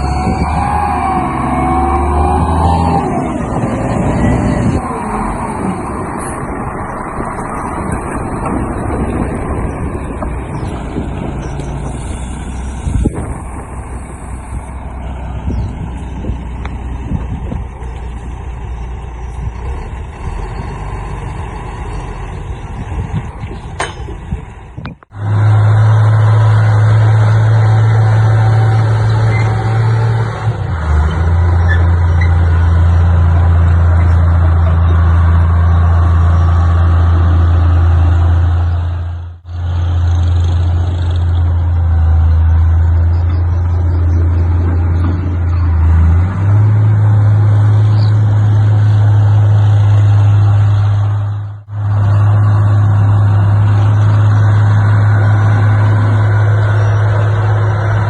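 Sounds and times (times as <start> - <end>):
heavy diesel machinery working: 0.0 - 58.0
low engine drone: 0.0 - 58.0.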